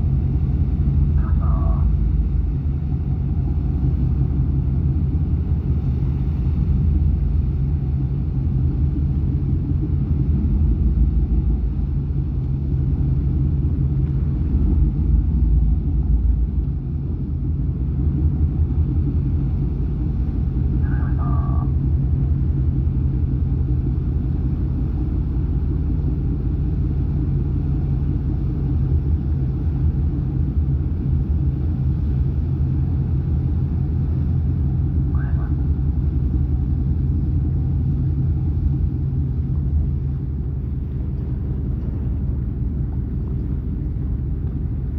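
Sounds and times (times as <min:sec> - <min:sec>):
boat engines rumbling: 0:00.0 - 0:44.9.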